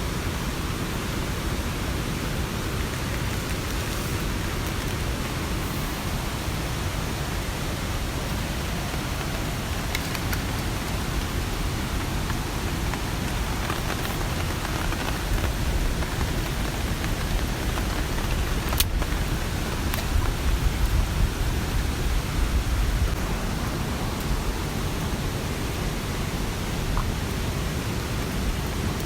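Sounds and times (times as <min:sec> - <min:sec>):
sharp raindrops ticking: 0:00.0 - 0:29.0
steady rain falling: 0:00.0 - 0:29.0.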